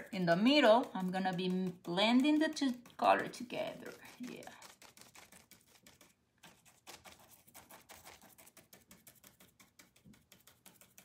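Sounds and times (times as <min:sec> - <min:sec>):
stencil brush tapping: 0:00.0 - 0:11.0.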